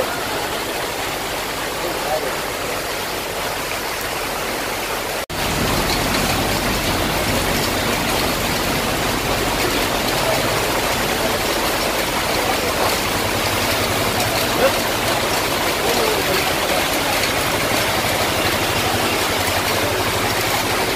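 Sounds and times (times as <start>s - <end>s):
floodwater running along street: 0.0s - 20.9s
heavy rain pouring: 0.0s - 20.9s.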